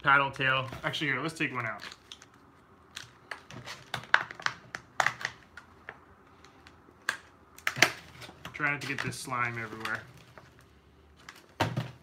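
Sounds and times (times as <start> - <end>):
plastic packaging crackling: 0.3 - 11.6.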